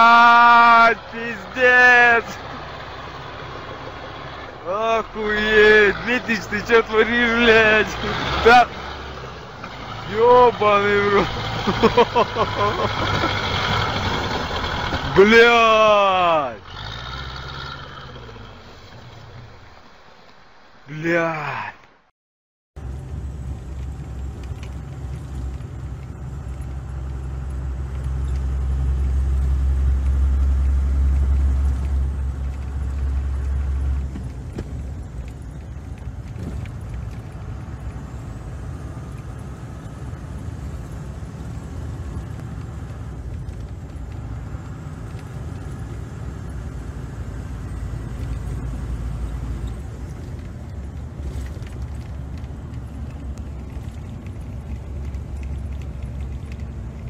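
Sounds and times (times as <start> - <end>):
vehicle engine and road noise: 0.0 - 22.1, 22.8 - 57.0.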